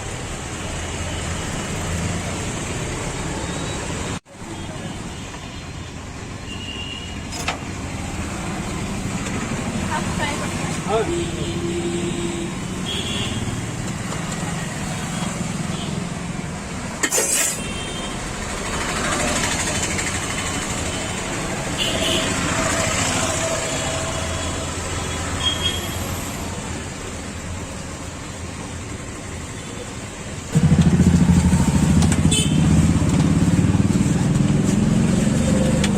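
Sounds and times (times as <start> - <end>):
vehicles passing: 0.0 - 6.4, 7.2 - 35.9.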